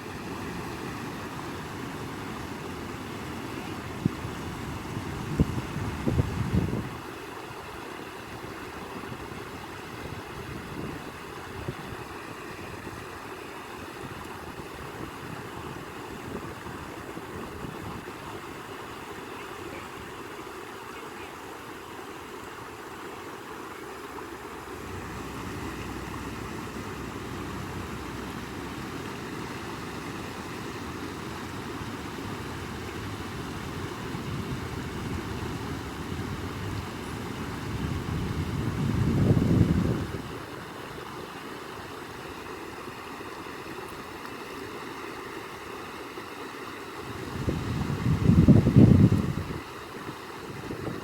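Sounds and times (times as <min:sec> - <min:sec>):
rushing flowing water: 0:00.0 - 0:51.0.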